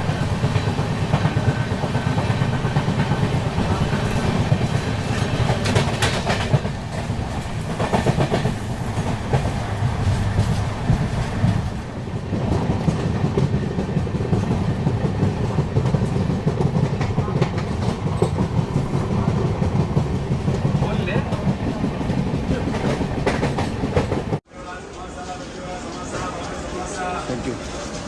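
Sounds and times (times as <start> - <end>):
clickety-clack of train wheels: 0.0 - 24.4
rumble of train wheels on rails: 0.0 - 28.0.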